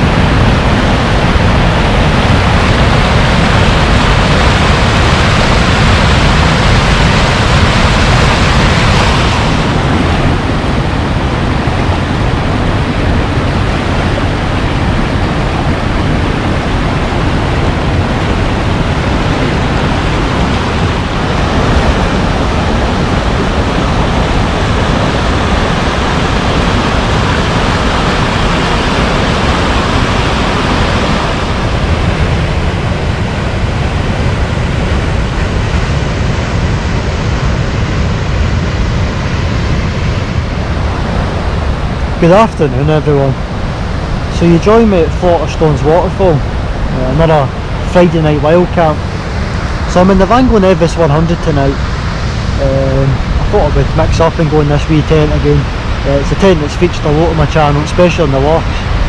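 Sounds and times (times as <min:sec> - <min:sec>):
waterfall rushing: 0:00.0 - 0:38.4, 0:39.0 - 0:59.0
deep rumble: 0:00.0 - 0:59.0.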